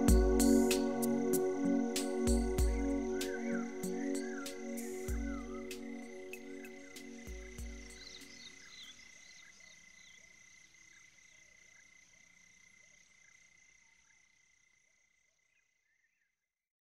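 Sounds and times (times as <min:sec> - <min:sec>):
short insect chirps: 0:00.0 - 0:15.3
insect drone: 0:00.0 - 0:16.0.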